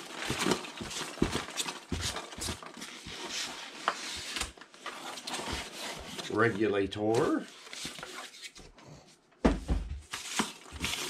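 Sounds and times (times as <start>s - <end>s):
packing peanuts rustling: 0.0s - 8.1s, 10.1s - 11.0s.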